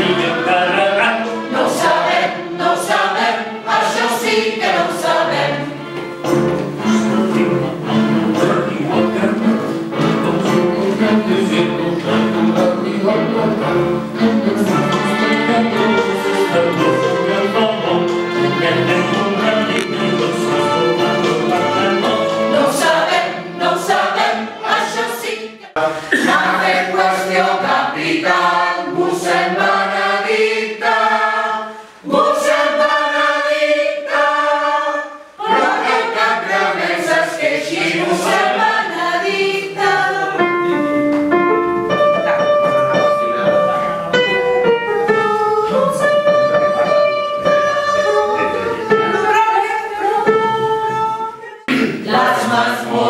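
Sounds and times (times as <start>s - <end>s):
mixed choir singing: 0.0s - 41.0s, 44.1s - 53.0s.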